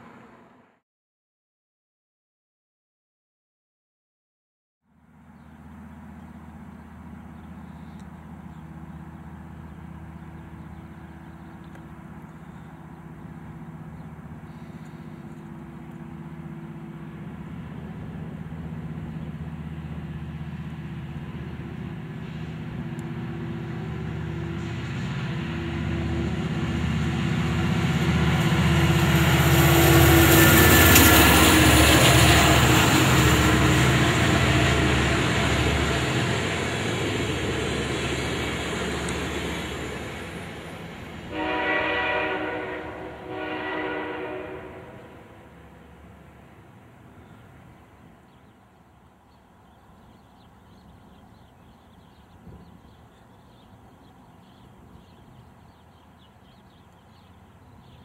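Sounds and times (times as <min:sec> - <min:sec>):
diesel locomotive engine drone: 0:00.0 - 0:00.8, 0:04.9 - 0:58.0
train coaches rolling past: 0:05.0 - 0:58.0.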